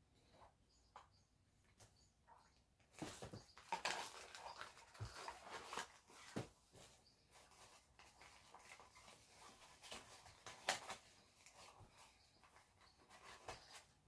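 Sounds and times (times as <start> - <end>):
plastic parts ticking and rustling: 0.3 - 14.0.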